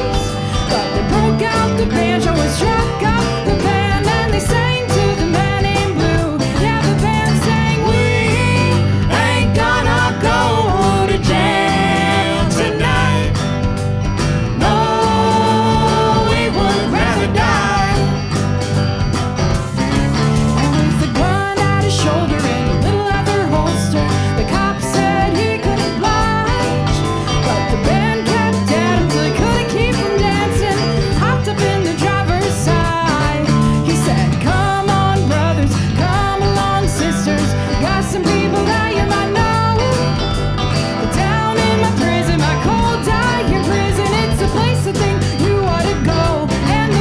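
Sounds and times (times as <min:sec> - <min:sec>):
country bluegrass band playing: 0:00.0 - 0:47.0
sliding lead melody: 0:00.0 - 0:47.0.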